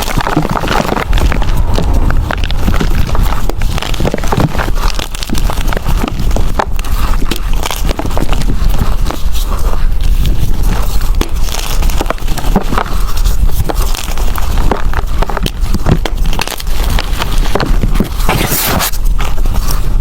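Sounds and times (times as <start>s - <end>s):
chalk blocks crunching by hand: 0.0s - 20.0s.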